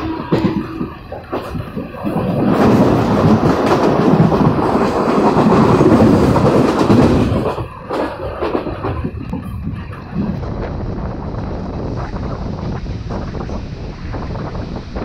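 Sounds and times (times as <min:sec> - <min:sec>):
train passing close by: 0:00.0 - 0:15.0.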